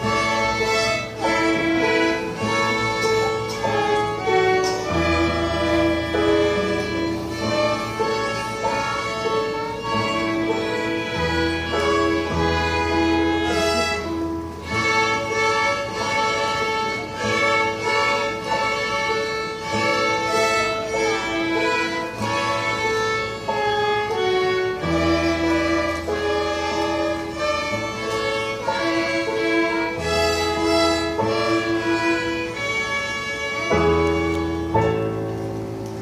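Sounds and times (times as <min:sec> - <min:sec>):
violin melody: 0:00.0 - 0:36.0.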